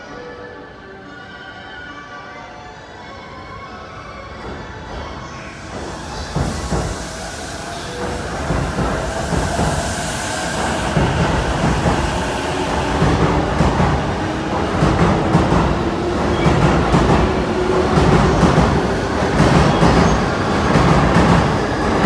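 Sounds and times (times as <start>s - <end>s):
electric train pulling out: 3.4s - 22.0s.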